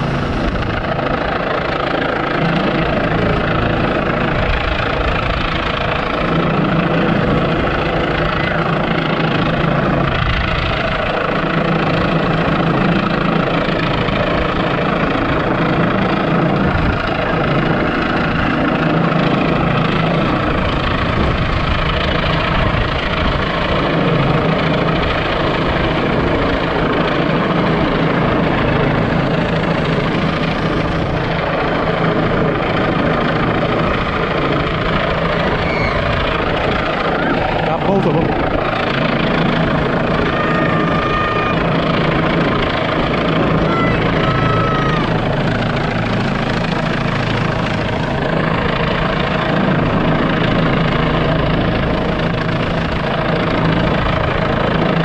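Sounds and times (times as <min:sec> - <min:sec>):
helicopter rotor beating: 0:00.0 - 0:55.0.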